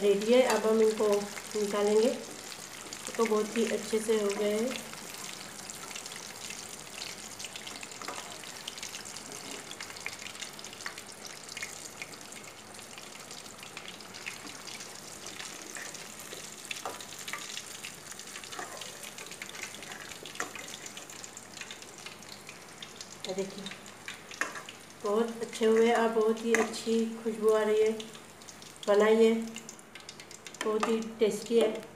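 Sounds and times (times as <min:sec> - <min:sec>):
food deep-frying in hot oil: 0:00.0 - 0:31.9.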